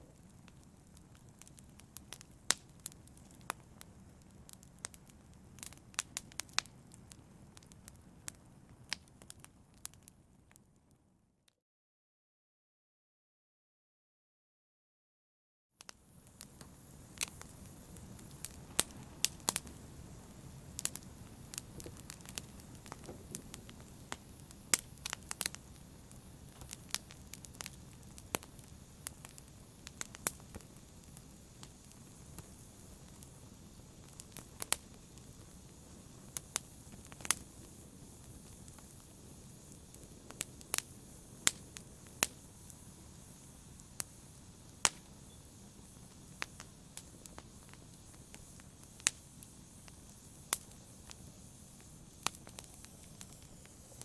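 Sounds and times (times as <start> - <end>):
flames rumbling and hissing: 0.0 - 10.1, 15.9 - 54.0
fire crackling: 0.0 - 10.9, 15.8 - 54.0.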